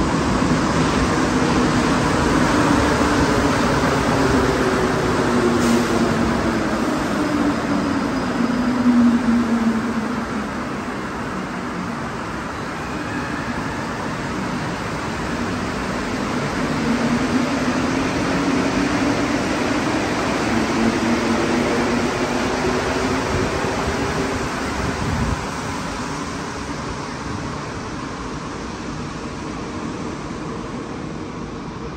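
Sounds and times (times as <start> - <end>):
metro train rumble: 0.0 - 31.9.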